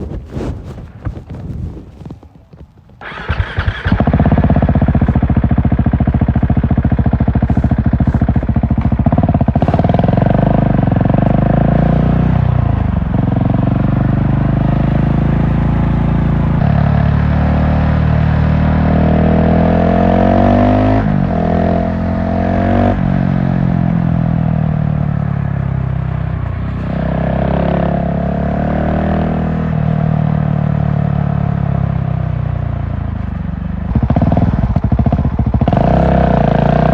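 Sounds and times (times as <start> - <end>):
motorcycle engine running hard: 3.0 - 36.9.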